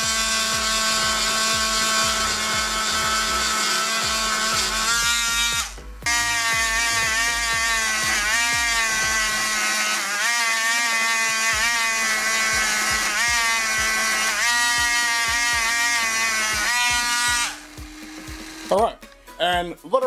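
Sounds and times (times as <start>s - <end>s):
rotary tool motor whine: 0.0s - 18.8s
wire brush scrubbing metal: 0.0s - 18.8s.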